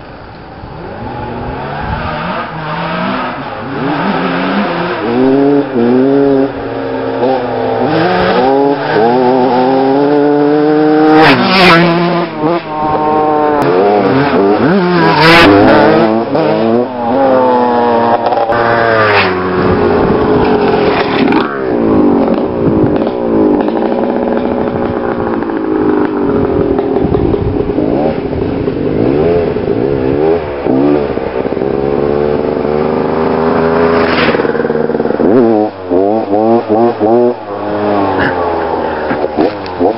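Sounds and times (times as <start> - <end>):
motocross bikes revving past: 0.6 - 39.9.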